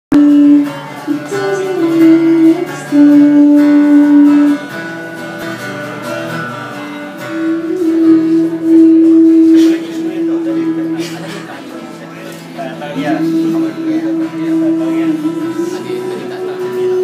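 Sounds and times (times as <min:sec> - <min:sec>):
guitar music: 0:00.1 - 0:17.0.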